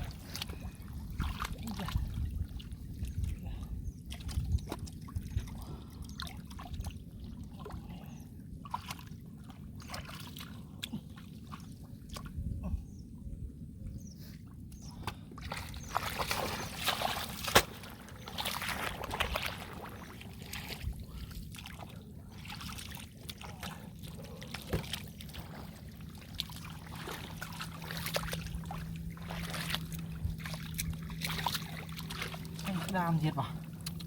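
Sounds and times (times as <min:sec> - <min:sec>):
splashing in muddy water: 0:00.0 - 0:12.9, 0:14.8 - 0:34.0
faint steady hum: 0:00.0 - 0:34.0.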